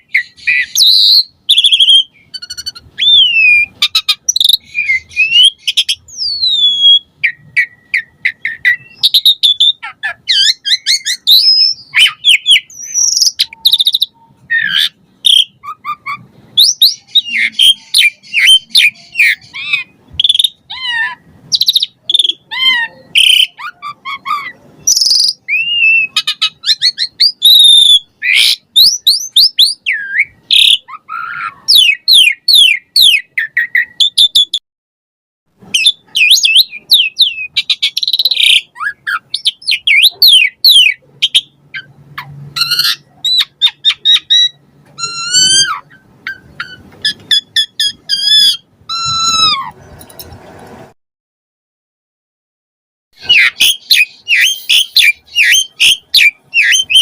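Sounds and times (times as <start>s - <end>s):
starling singing: 0.0s - 34.6s, 35.7s - 50.0s, 53.2s - 57.0s.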